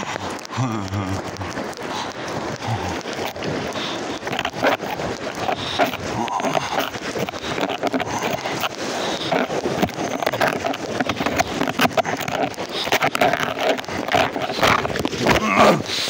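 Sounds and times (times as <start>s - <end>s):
floodwater rushing and splashing: 0.0s - 16.0s
scrapes and knocks on kayak: 2.4s - 16.0s.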